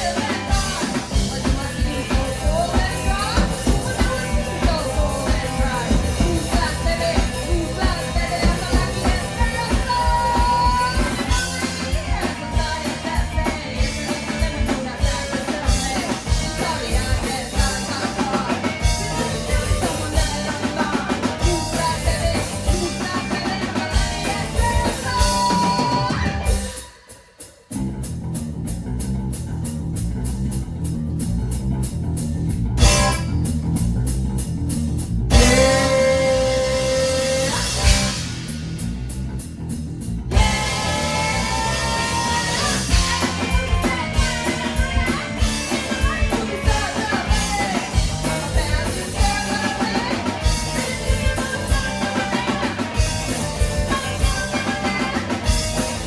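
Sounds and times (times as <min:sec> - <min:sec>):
bass guitar: 0:00.0 - 0:26.9, 0:27.7 - 0:56.0
person singing: 0:00.0 - 0:27.2, 0:35.3 - 0:38.4, 0:40.3 - 0:56.0
drum kit: 0:00.0 - 0:56.0
electric guitar: 0:00.0 - 0:56.0.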